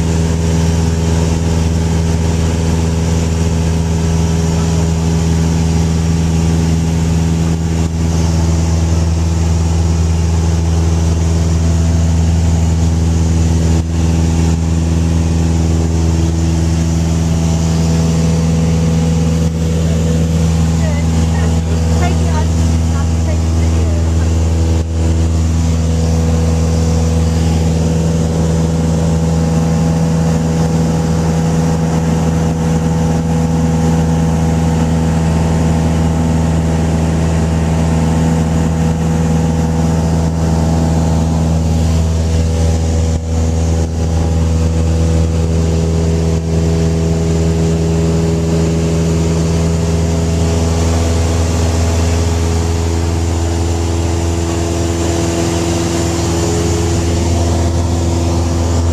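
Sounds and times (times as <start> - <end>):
light aircraft engine droning: 0.0 - 58.9.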